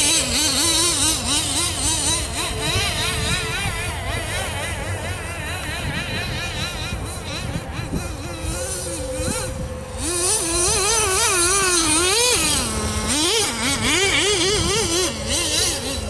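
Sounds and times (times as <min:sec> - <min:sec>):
rc buggy engine revving: 0:00.0 - 0:16.0.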